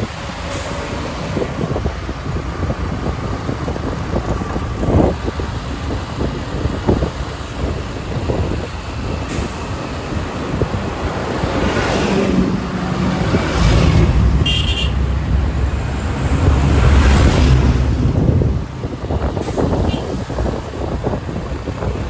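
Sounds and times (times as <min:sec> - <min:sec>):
motorcycle engine and road rumble: 0:00.0 - 0:22.0
rushing wind: 0:00.0 - 0:22.0.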